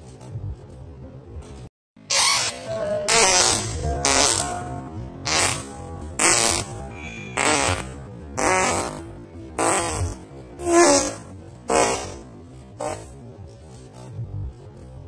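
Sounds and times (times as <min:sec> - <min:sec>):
fart noises: 0:02.0 - 0:14.2.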